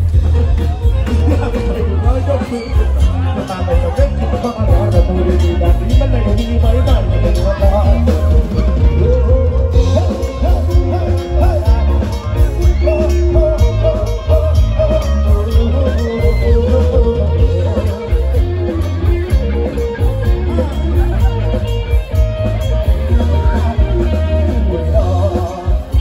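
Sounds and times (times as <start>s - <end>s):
live band music: 0.0s - 26.0s.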